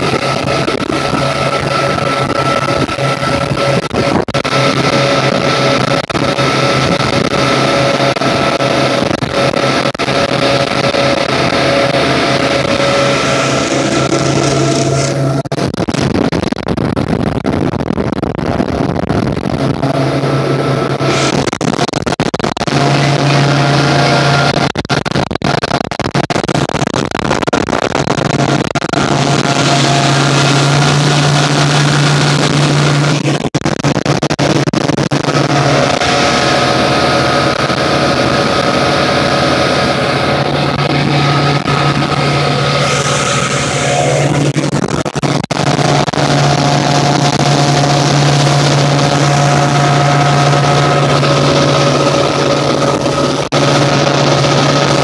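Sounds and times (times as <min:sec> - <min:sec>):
outboard motor drone: 0:00.0 - 0:55.0
rushing water: 0:00.0 - 0:55.0
rushing wind: 0:00.0 - 0:55.0.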